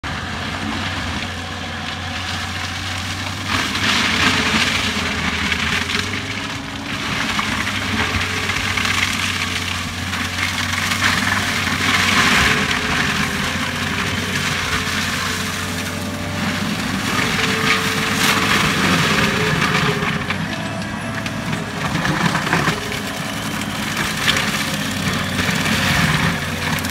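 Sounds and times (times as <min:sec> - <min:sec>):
mulcher engine humming: 0:00.0 - 0:26.9
mulching head shredding bush: 0:01.4 - 0:26.9.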